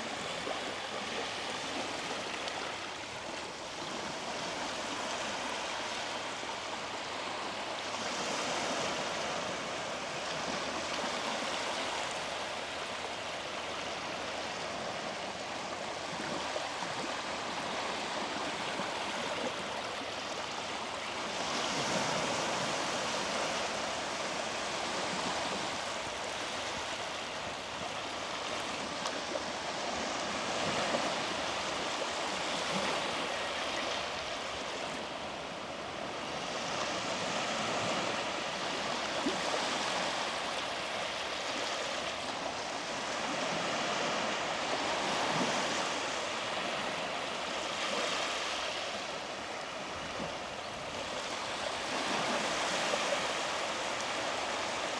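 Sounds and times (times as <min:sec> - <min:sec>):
small waves washing on beach: 0:00.0 - 0:54.9.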